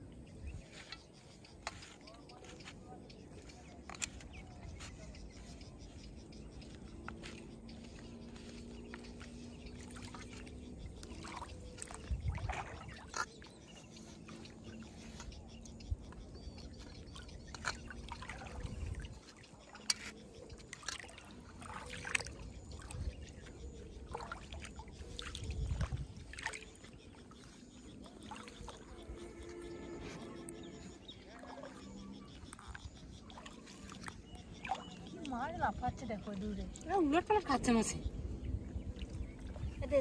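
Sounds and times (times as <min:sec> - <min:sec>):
water splashing and trickling: 0:00.0 - 0:40.0.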